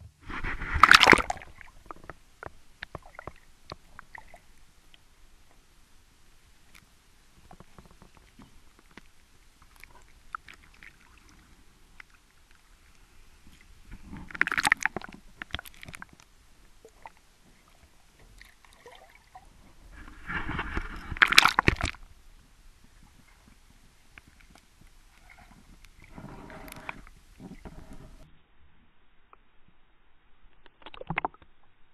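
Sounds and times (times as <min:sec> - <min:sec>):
water sloshing and splashing: 0:00.2 - 0:05.6, 0:07.4 - 0:28.2.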